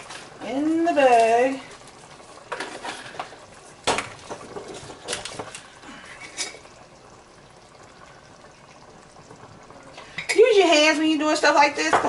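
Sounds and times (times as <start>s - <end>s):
pot bubbling on stove: 0.0s - 12.0s.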